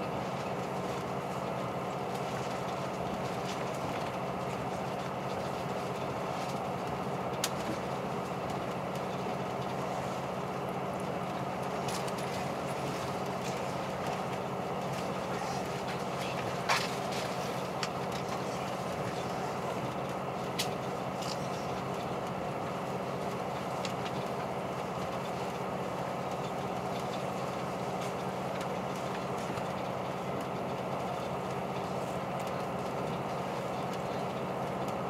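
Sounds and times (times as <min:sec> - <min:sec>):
diesel railcar idling hum: 0:00.0 - 0:35.0.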